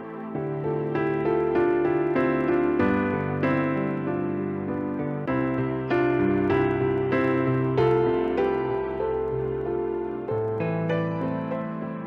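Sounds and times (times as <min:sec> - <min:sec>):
slow keyboard music: 0:00.0 - 0:12.0.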